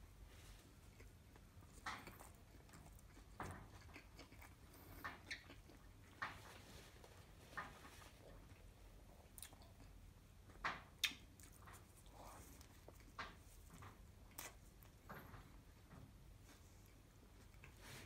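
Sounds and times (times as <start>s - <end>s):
person chewing food: 0.6s - 15.1s.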